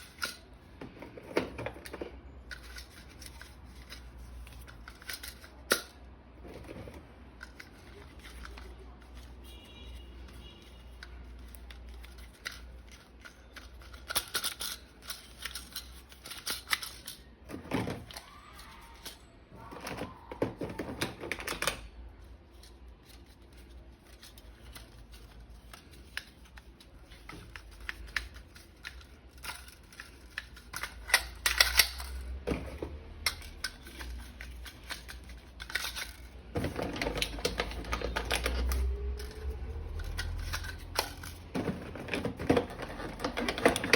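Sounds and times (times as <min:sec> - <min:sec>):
plastic toy parts clicking: 0:00.0 - 0:09.4, 0:10.3 - 0:43.9.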